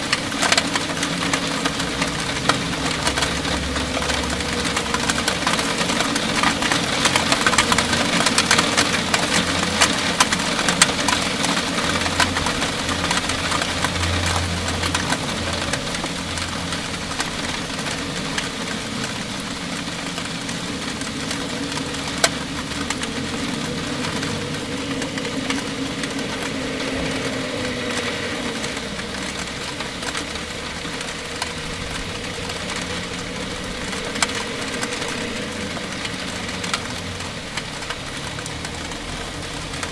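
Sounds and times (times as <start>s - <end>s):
heavy rain: 0.0s - 39.9s
raindrops ticking on roof: 0.0s - 39.9s.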